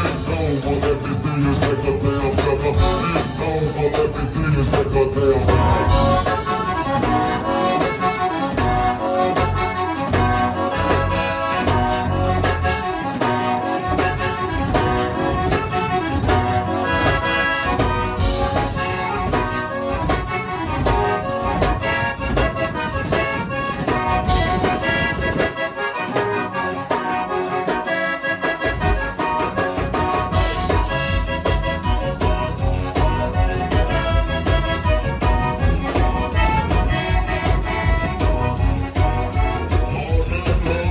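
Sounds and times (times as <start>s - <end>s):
accordion lead: 0.0s - 40.9s
drum kit: 0.0s - 40.9s
electric bass: 0.0s - 40.9s.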